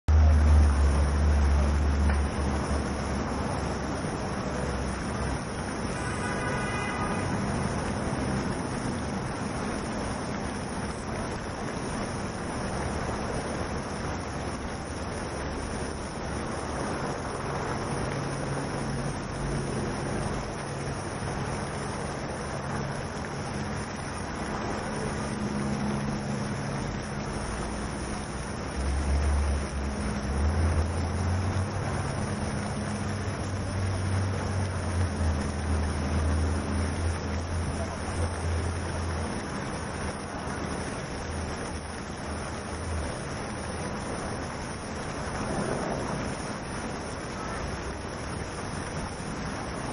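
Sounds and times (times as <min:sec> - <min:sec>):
city traffic: 0:00.0 - 0:49.9
fountain streaming into pool: 0:00.1 - 0:49.9.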